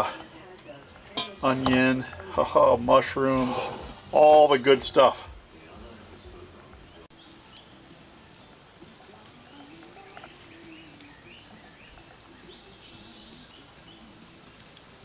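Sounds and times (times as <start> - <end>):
outdoor background noise: 0.0 - 15.0
bird chirping: 0.7 - 14.4.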